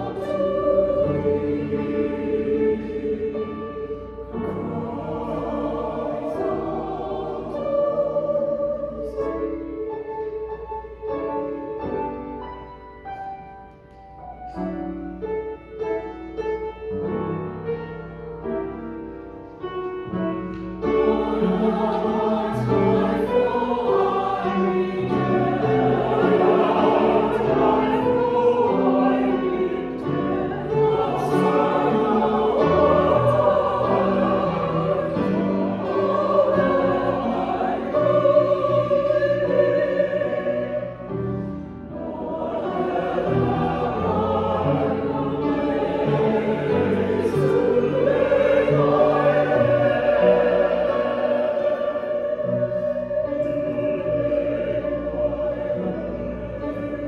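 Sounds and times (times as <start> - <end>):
mixed choir singing: 0.0 - 12.4, 20.1 - 57.0.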